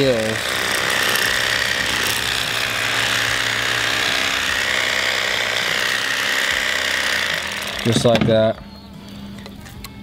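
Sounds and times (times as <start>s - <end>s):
electric knife buzzing: 0.0s - 8.3s.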